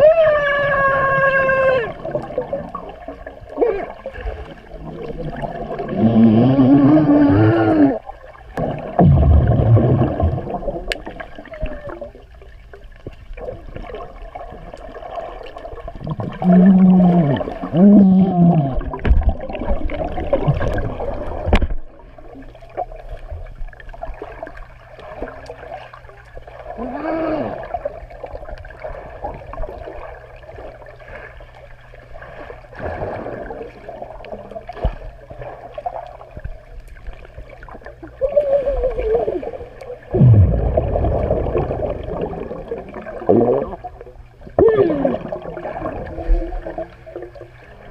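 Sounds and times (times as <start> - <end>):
muffled gurgling water: 0.0 - 47.9
muffled voices underwater: 0.0 - 47.9.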